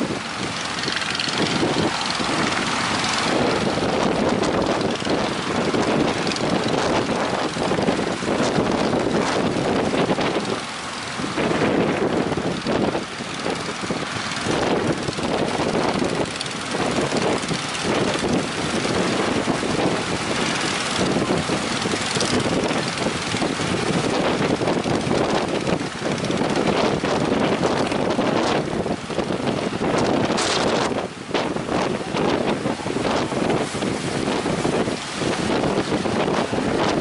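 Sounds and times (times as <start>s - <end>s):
boat engines droning: 0.0s - 37.0s
wind buffeting microphone: 0.0s - 37.0s.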